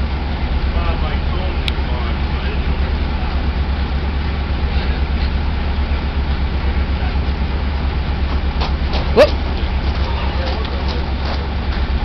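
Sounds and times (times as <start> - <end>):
diesel locomotive engine idling: 0.0 - 12.0.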